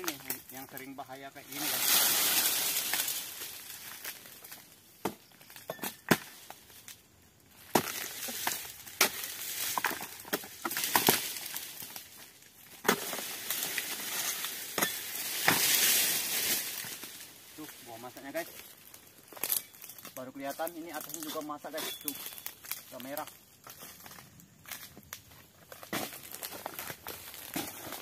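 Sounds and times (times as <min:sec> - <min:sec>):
fronds cracking and crunching: 0:00.0 - 0:28.0
fronds rustling: 0:00.0 - 0:28.0.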